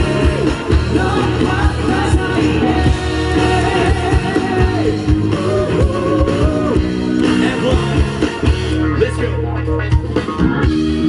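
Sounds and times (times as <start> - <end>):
electric guitar bent notes: 0.0 - 11.0
steady drum beat: 0.0 - 11.0.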